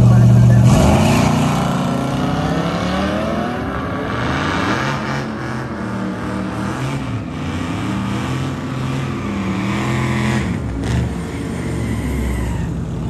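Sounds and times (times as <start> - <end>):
drag racing car engine revving: 0.0 - 13.0.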